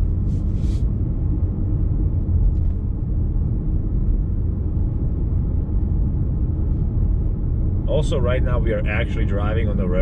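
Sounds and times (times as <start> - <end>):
road and tyre rumble in cabin: 0.0 - 10.0.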